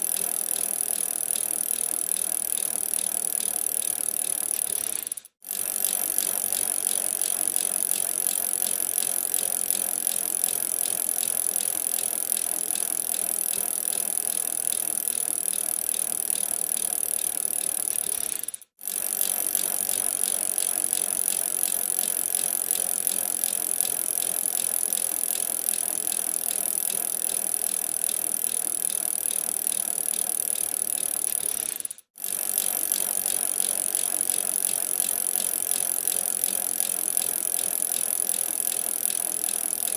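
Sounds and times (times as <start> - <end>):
bicycle drivetrain rattling and ticking: 0.0 - 39.9.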